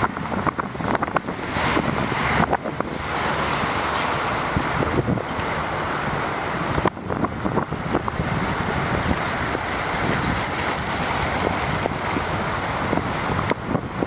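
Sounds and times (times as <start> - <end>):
wind buffeting microphone: 0.0 - 14.0
bicycle tyres hissing on wet pavement: 0.1 - 14.0.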